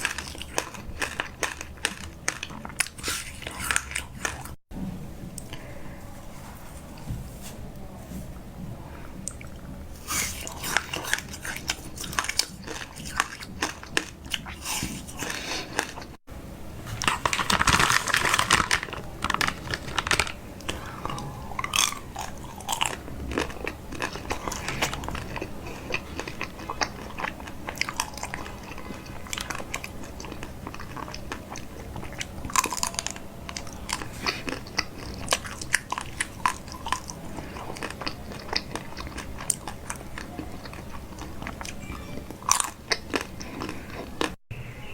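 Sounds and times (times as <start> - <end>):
crunchy chewing: 0.0 - 4.6, 9.2 - 16.2, 16.9 - 44.4.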